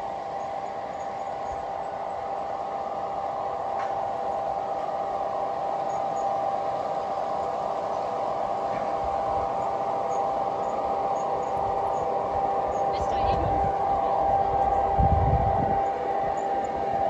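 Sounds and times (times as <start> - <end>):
model train humming on track: 0.0 - 17.0.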